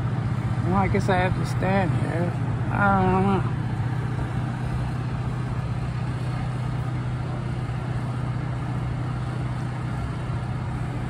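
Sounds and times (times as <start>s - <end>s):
low mechanical hum: 0.0s - 11.0s
outdoor city noise: 0.0s - 11.0s.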